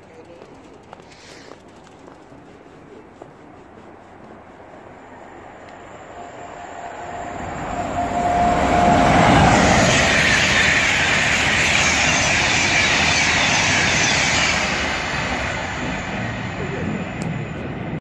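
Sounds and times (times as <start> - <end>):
express train passing at speed: 0.0 - 18.0.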